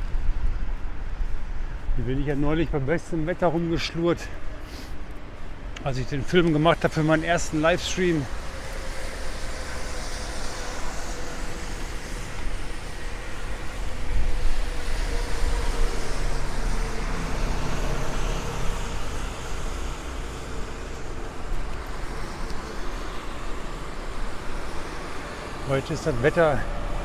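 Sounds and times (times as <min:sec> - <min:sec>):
vehicles passing on a street: 0:00.0 - 0:27.0.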